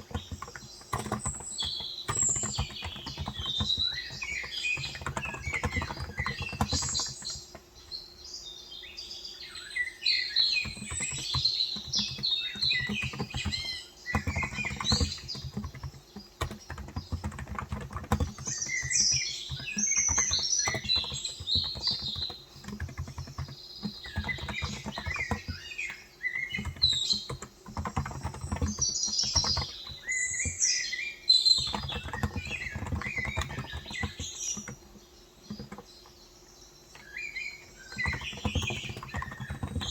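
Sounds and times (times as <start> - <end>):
soft keyboard keystrokes: 0.0 - 7.7, 10.5 - 36.2, 36.9 - 39.9
birds chirping: 0.0 - 39.9.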